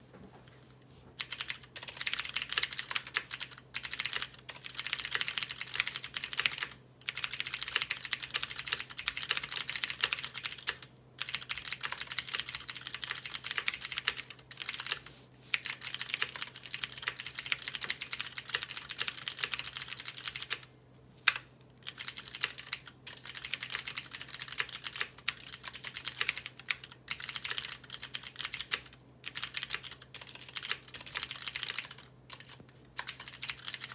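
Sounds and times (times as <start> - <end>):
mechanical keyboard typing: 1.2 - 20.7, 21.3 - 33.9.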